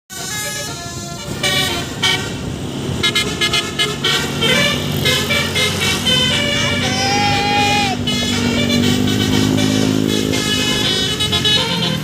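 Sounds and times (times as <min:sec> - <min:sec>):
bus engine running: 0:00.1 - 0:12.0
multi-tone bus horn melody: 0:00.1 - 0:12.0.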